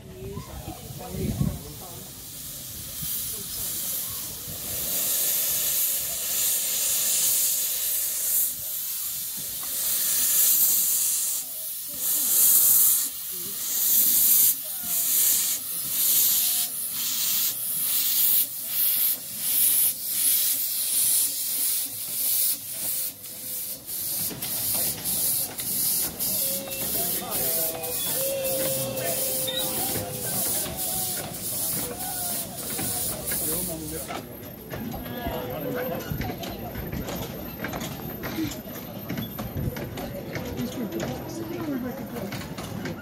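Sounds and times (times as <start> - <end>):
steam hissing: 0.1 - 42.8
steam locomotive exhaust beats: 0.5 - 43.0.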